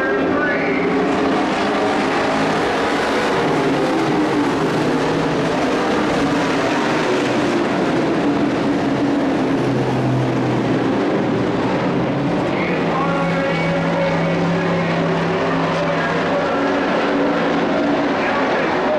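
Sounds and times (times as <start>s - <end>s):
racing truck engines droning: 0.0s - 18.9s.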